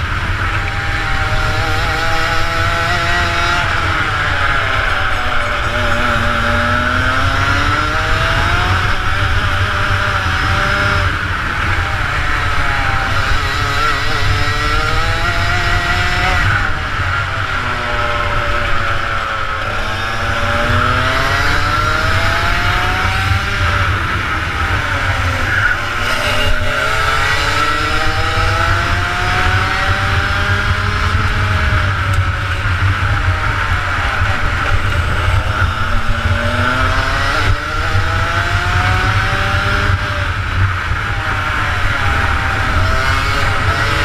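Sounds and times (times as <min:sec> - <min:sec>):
kart engine revving: 0:00.0 - 0:44.0.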